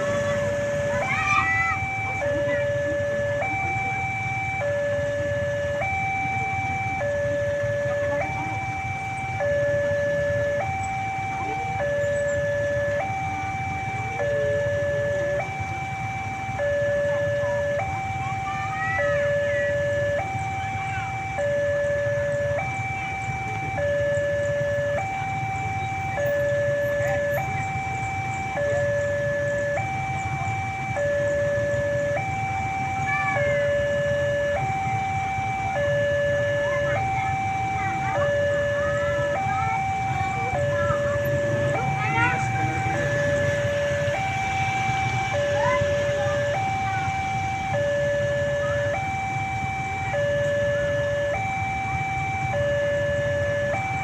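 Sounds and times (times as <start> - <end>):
two-tone crossing siren: 0.0 - 54.0.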